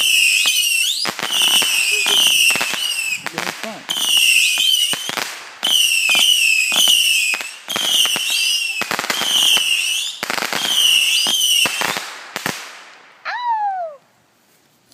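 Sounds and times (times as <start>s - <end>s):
firework bangs: 0.0s - 13.2s
whistling fireworks: 0.0s - 13.6s.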